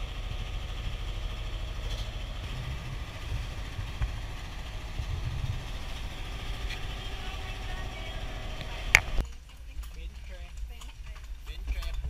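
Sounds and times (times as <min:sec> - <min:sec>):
boat engine rumbling: 0:00.0 - 0:10.1.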